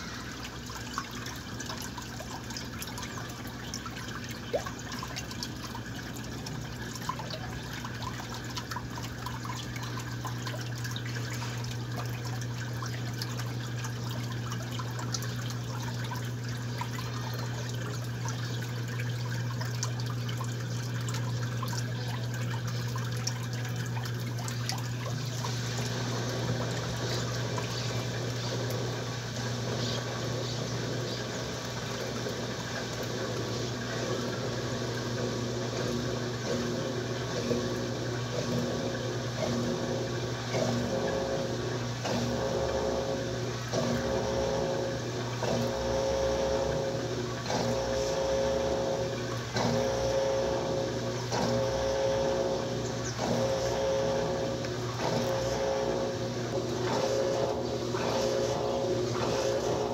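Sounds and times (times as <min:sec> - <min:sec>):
washing machine low hum: 0:00.0 - 0:59.9
water trickling into tub: 0:00.0 - 0:59.9.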